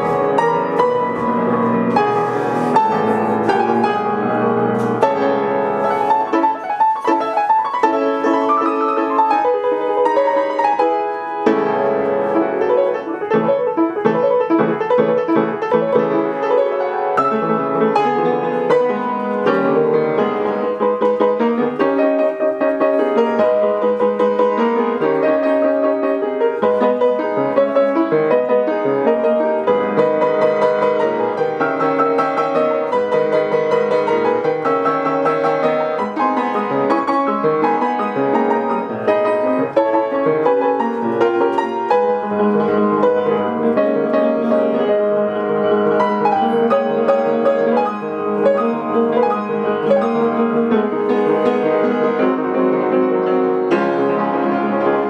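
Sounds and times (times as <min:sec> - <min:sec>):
solo piano piece with chords: 0:00.0 - 0:55.0.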